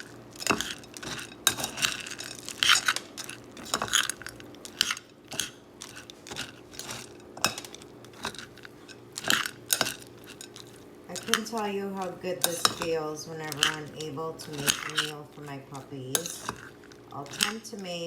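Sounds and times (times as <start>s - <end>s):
spoon stirring dry kibble in bowl: 0.0s - 18.0s.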